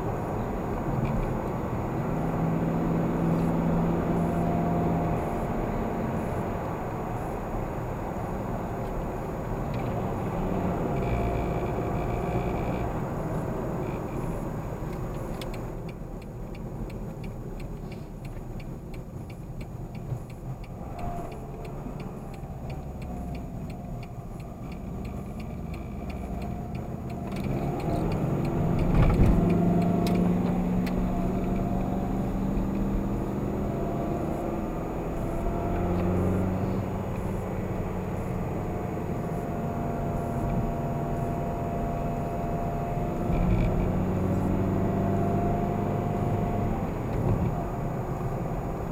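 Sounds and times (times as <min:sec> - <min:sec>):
car engine and tyre noise: 0:00.0 - 0:48.9.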